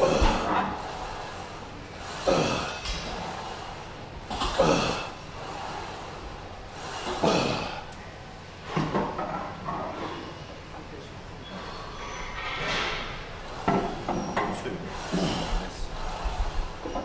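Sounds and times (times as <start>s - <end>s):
heavy forceful breaths: 0.0s - 9.2s, 11.4s - 17.0s.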